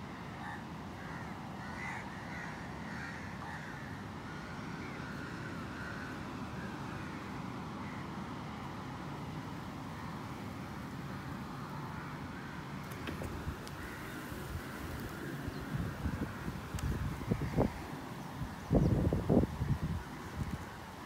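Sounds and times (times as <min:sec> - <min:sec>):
low outdoor background rumble: 0:00.0 - 0:21.0.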